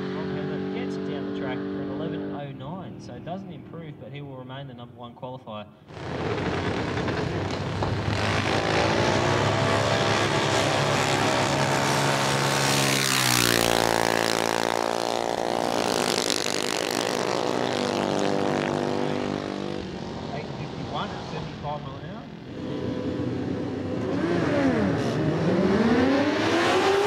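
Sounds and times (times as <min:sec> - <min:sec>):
dragster engines at full throttle: 0:00.0 - 0:03.7, 0:05.9 - 0:27.0.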